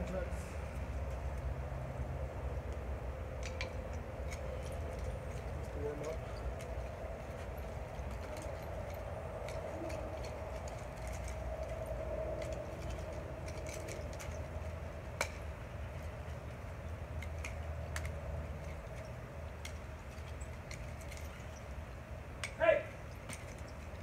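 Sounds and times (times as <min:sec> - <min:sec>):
background hum and rumble: 0:00.0 - 0:24.0.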